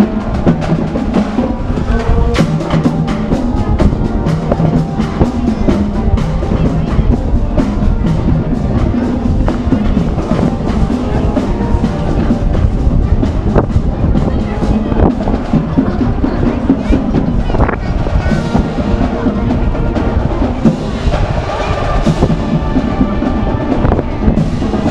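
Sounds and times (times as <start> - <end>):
parade music with drums: 0.0 - 24.9.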